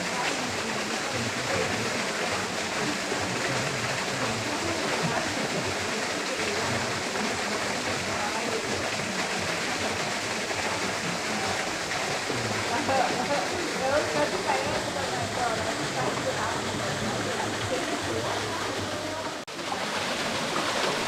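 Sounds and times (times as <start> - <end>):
small waterfall pouring: 0.0 - 21.0.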